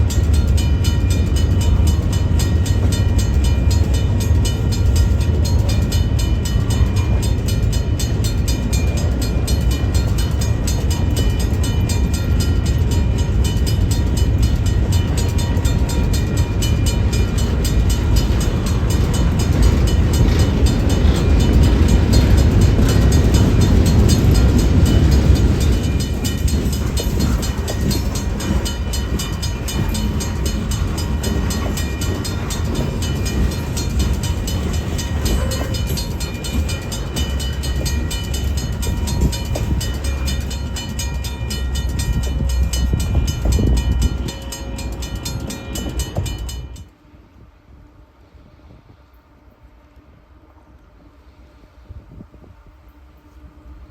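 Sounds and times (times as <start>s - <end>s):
train wheels rumbling and clattering: 0.0s - 47.0s.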